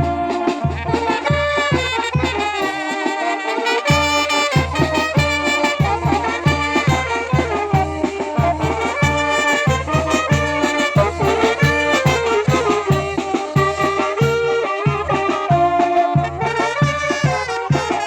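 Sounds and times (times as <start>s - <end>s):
brass band playing: 0.0s - 18.0s.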